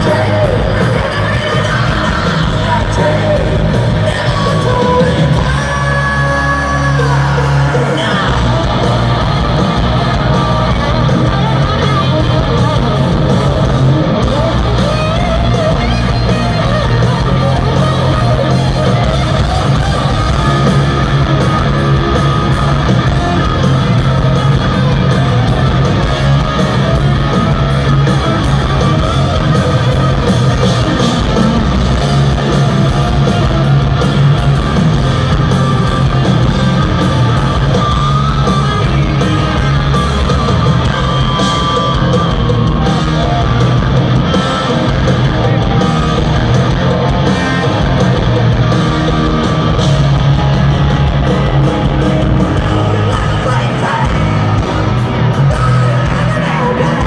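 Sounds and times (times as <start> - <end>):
electric guitar: 0.0 - 57.0
hard rock band playing live: 0.0 - 57.0.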